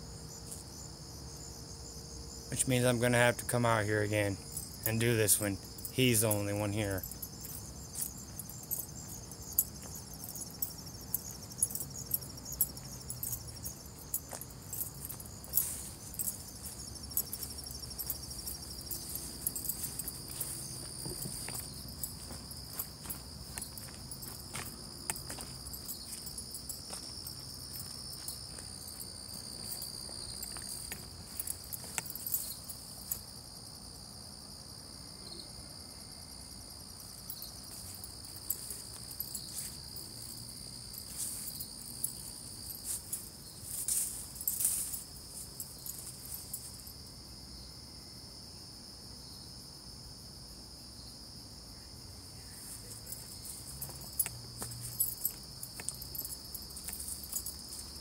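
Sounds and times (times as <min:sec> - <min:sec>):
night insects chorus: 0:00.0 - 0:58.0.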